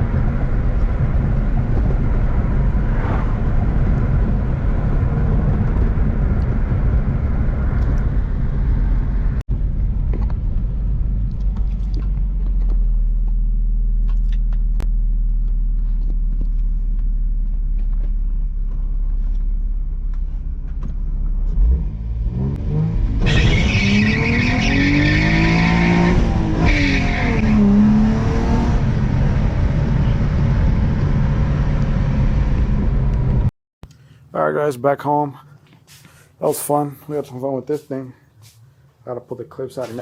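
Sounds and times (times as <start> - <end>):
car engine accelerating: 0.0 - 33.5.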